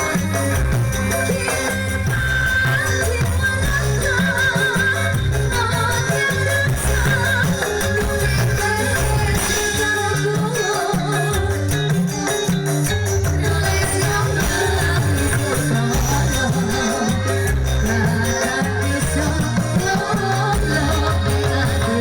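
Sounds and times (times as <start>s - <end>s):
live band music with singing: 0.0s - 22.0s.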